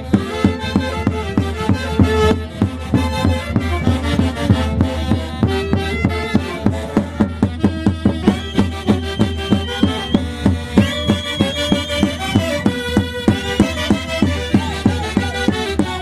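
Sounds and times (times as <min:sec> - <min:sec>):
sustained melody instruments: 0:00.0 - 0:16.0.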